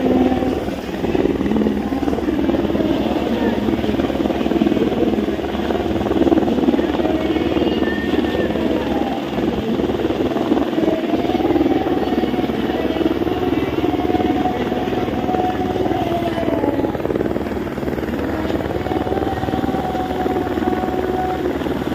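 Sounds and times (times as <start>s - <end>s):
helicopter rotor chopping: 0.0s - 21.9s
helicopter turbine running: 0.0s - 21.9s.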